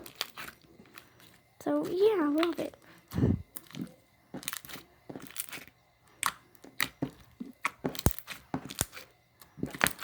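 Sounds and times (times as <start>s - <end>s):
slime squished by hand crackling: 0.0s - 10.0s.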